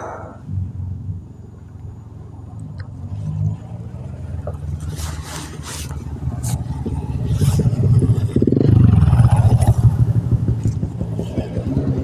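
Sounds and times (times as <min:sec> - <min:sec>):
engine pulsing rumble: 0:00.0 - 0:12.0.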